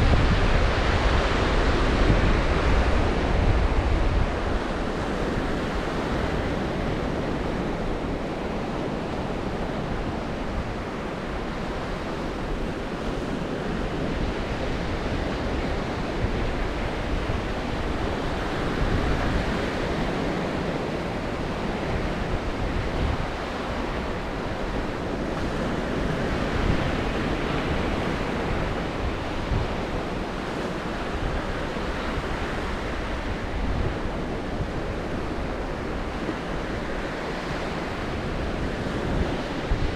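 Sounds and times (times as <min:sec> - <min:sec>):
waves breaking on shore: 0:00.0 - 0:39.9
wind buffeting microphone: 0:00.0 - 0:39.9.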